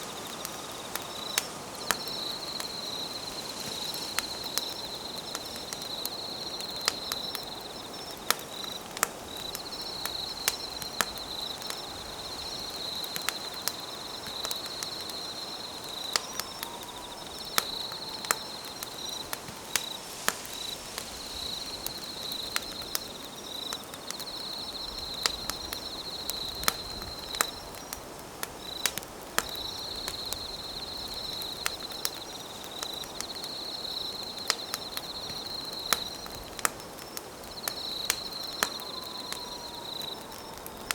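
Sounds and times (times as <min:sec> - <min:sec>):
campfire crackling and popping: 0:00.0 - 0:40.9
night insects trilling: 0:00.0 - 0:40.9.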